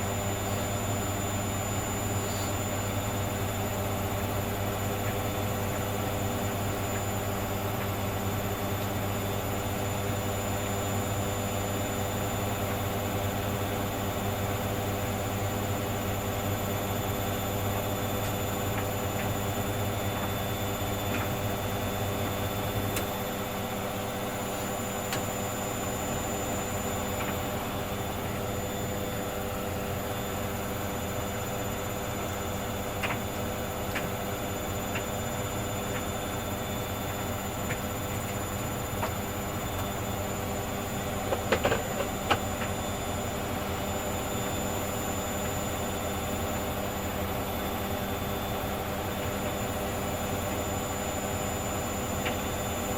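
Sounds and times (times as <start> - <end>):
washing machine whine: 0.0 - 52.9.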